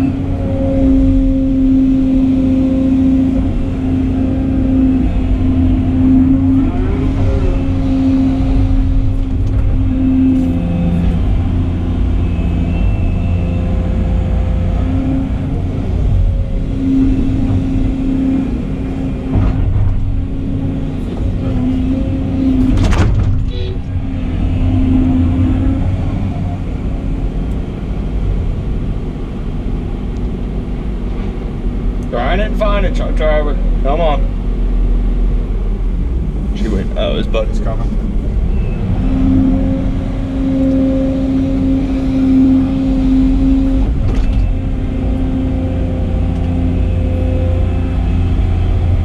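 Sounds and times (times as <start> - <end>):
excavator diesel engine drone: 0.0 - 49.0
hydraulic hum: 0.0 - 49.0.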